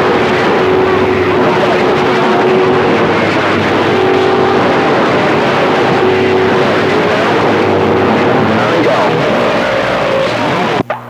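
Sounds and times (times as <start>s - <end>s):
steady whistle tones: 0.0s - 10.8s
faint garbled radio signals: 0.0s - 11.0s
radio static: 0.0s - 11.0s.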